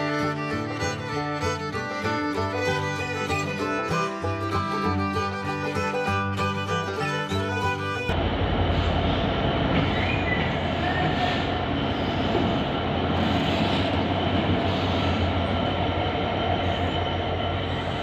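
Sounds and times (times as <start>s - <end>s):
diesel locomotive engine hum: 0.0s - 18.0s
train wheels rumbling on rails: 0.0s - 18.0s.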